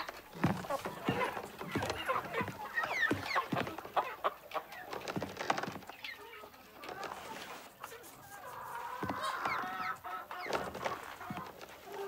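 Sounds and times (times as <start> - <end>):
hens clucking and squawking: 0.0 - 12.0.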